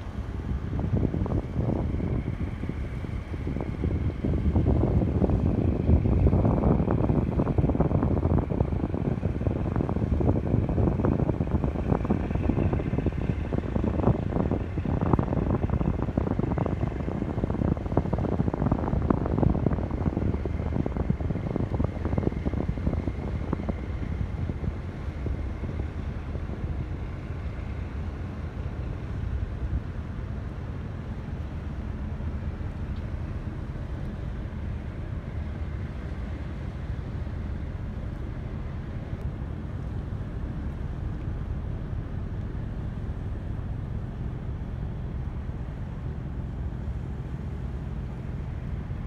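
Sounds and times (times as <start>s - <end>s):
ship engine rumble: 0.0s - 49.0s
wind buffeting microphone: 0.0s - 49.0s.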